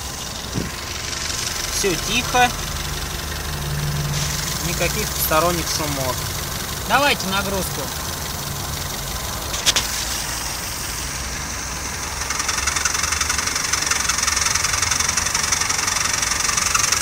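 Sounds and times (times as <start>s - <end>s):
car engine idling: 0.0s - 17.0s
high whirring hiss with ticking: 0.0s - 17.0s.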